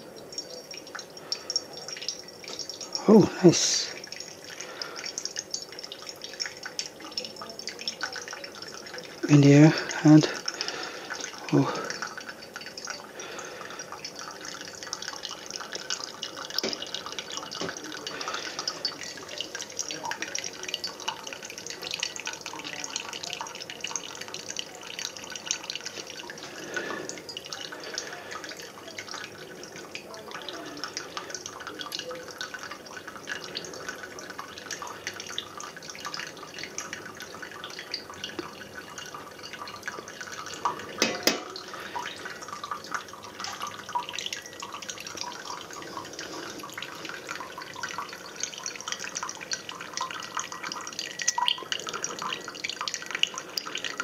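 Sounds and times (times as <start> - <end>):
coffee dripping into mug: 0.0 - 54.0
water trickling from kettle: 0.0 - 54.0.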